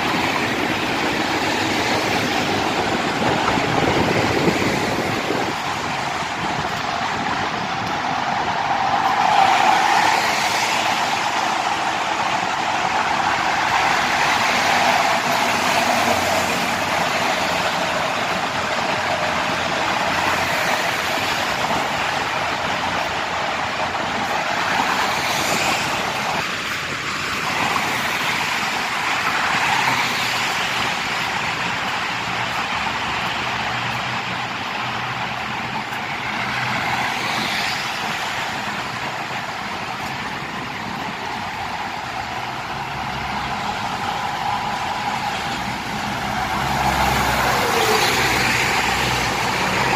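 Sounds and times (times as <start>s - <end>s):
highway traffic tyre roar: 0.0s - 49.9s.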